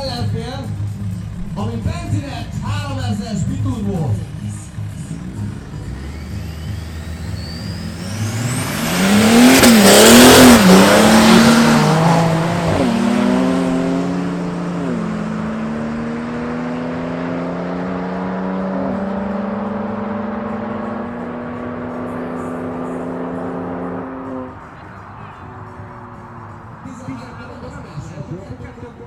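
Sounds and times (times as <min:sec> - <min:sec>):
car engines revving with gear changes: 0:00.0 - 0:29.0.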